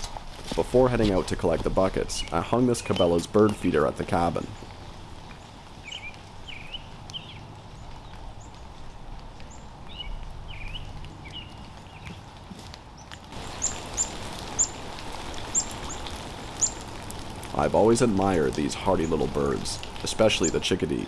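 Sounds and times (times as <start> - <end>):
outdoor background noise: 0.0 - 21.0
songbirds chirping: 0.0 - 21.0.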